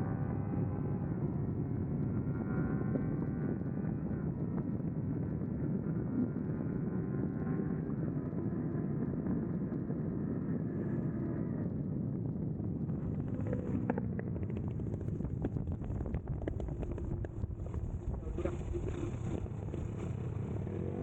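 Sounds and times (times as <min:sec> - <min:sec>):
motorcycle engine at speed: 0:00.0 - 0:21.0
wind rushing on microphone: 0:00.0 - 0:21.0.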